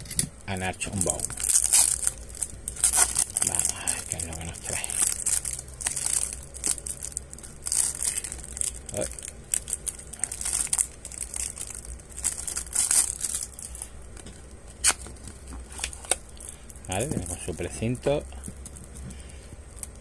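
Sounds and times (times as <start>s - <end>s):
cellophane wrap crinkling: 0.6s - 20.0s.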